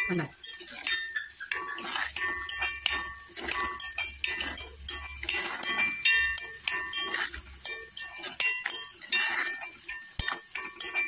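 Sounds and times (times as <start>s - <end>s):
onions sizzling in a pan: 0.0s - 11.0s
spatula clinking and scraping pan: 0.0s - 11.0s.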